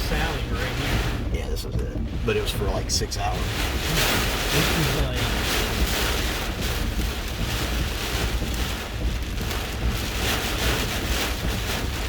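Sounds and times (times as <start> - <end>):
low rumble: 0.0 - 12.0
strong wind buffeting a vehicle: 0.0 - 12.0
wind noise on microphone: 0.0 - 12.0.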